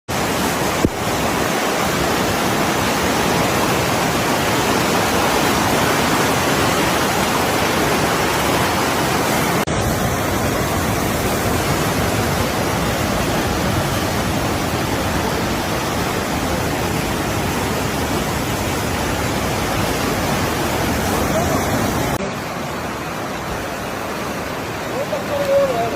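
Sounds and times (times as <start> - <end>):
rush of falling water: 0.1 - 25.9.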